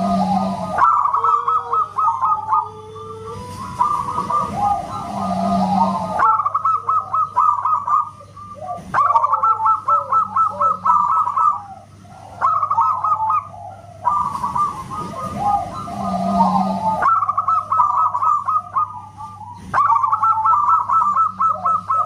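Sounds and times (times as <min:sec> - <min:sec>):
dove cooing: 0:00.0 - 0:22.0
faint steady hum: 0:00.0 - 0:22.0.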